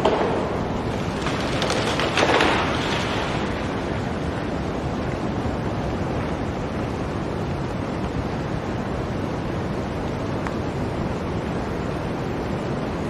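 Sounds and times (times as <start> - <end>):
blizzard wind blowing: 0.0 - 13.0.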